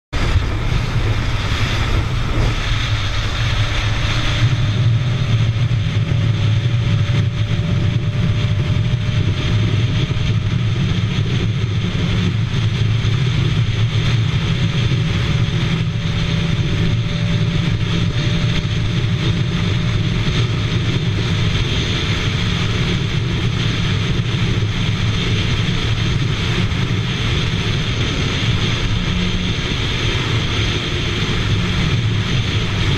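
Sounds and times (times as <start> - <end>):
motorcycle engine at high speed: 0.0 - 32.9
wind rush over microphone: 0.1 - 32.9
faint rising whine: 0.2 - 32.9.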